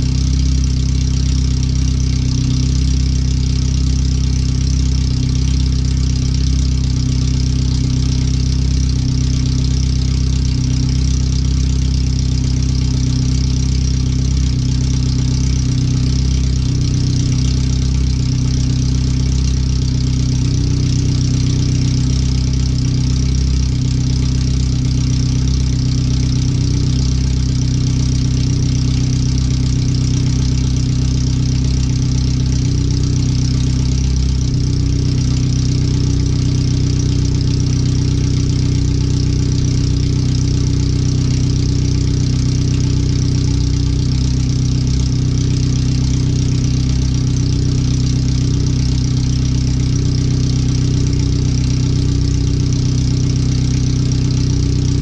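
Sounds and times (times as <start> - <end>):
loud car engine idling: 0.0 - 55.0.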